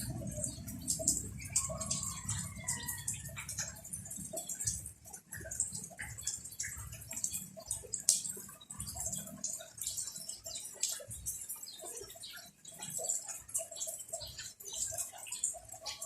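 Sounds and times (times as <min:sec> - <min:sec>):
rain dripping and pattering: 0:00.0 - 0:16.0.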